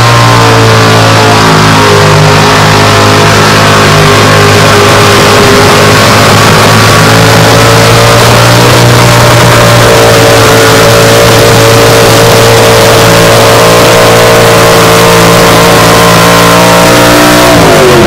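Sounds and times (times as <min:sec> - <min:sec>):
truck engine at high revs: 0:00.0 - 0:18.0.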